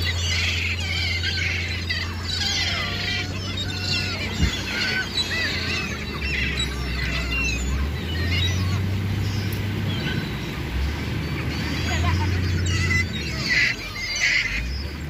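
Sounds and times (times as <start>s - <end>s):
gulls squawking: 0.0s - 15.0s.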